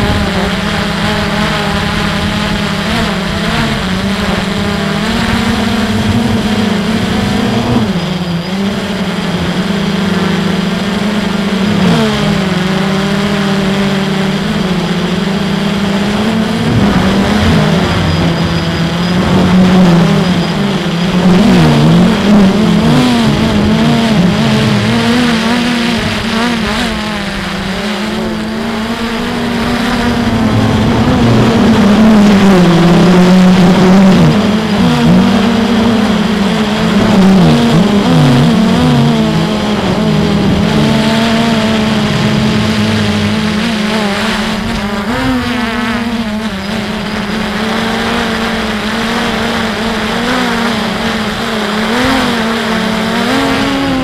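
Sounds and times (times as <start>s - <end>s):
drone propellers whining: 0.0s - 54.0s.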